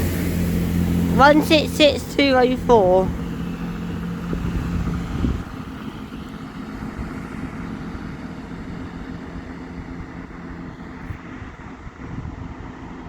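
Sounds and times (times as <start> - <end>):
heavy low rumble: 0.0 - 11.2
diesel engine humming: 0.0 - 11.4.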